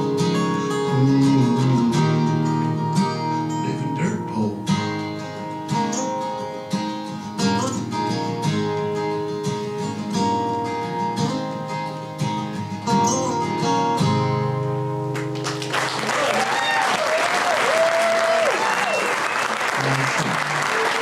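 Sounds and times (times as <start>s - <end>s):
acoustic guitar picking and strumming: 0.0s - 16.2s, 19.8s - 20.8s.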